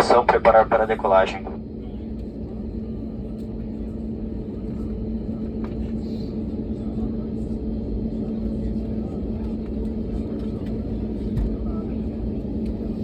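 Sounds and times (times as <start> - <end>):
airliner engines rumbling in cabin: 0.0 - 13.0.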